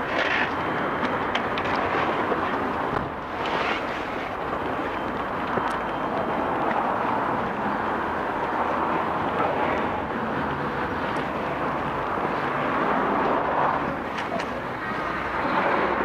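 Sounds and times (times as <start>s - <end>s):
rushing vehicle noise: 0.0s - 16.0s.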